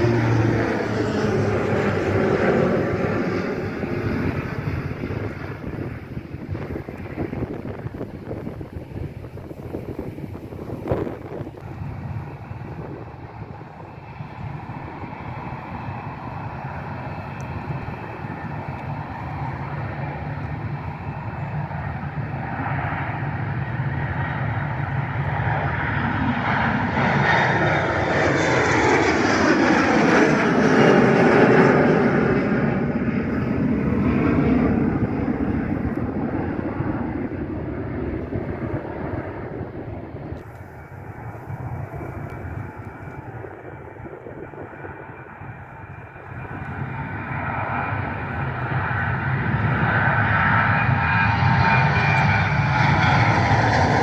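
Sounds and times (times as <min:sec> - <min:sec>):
airplane engine passing by: 0:00.0 - 0:54.0.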